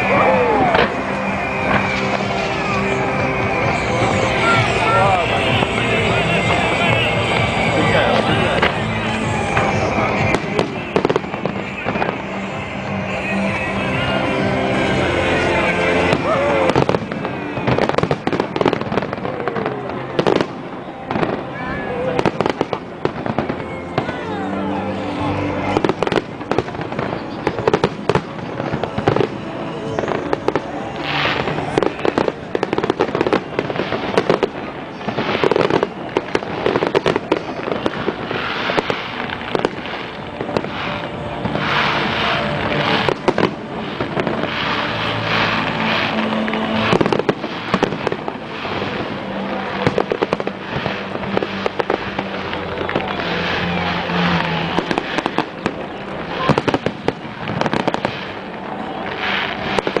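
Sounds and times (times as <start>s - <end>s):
fireworks bursting and crackling: 0.0s - 60.0s.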